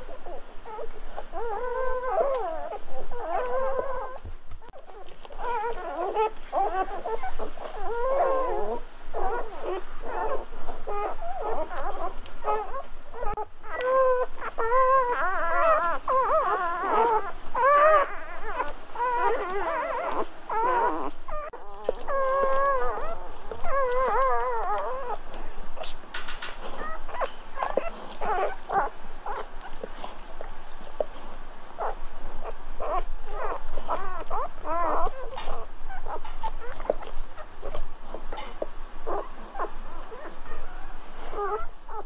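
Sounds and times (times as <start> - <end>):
puppies whimpering and squeaking: 0.0 - 42.0.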